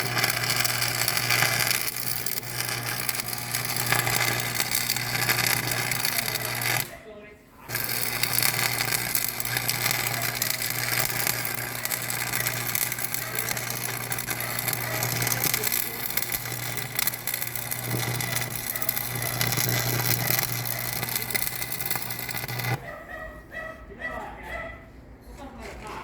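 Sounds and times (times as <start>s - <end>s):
machine humming: 0.0s - 6.9s, 7.7s - 22.8s.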